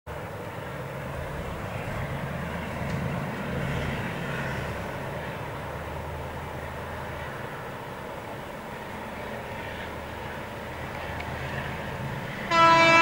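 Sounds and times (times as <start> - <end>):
distant train engine drone: 0.1 - 13.0.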